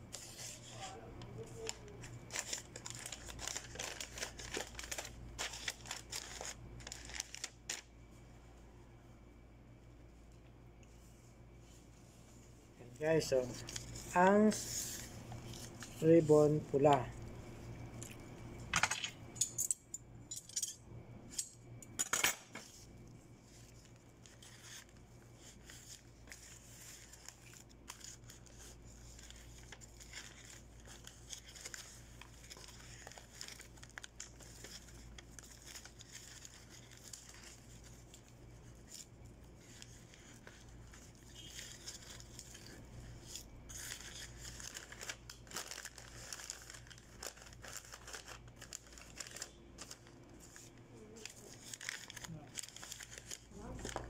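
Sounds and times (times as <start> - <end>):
wrapping paper crinkling: 0.1 - 8.0, 13.0 - 18.5, 22.6 - 54.0.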